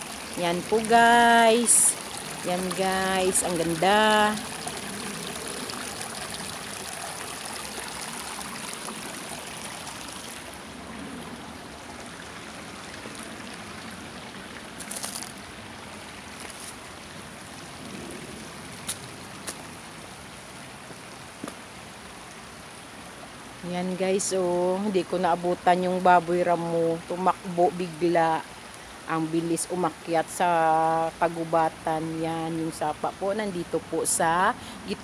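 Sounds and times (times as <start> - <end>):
creek water trickling over rocks: 0.0 - 35.0.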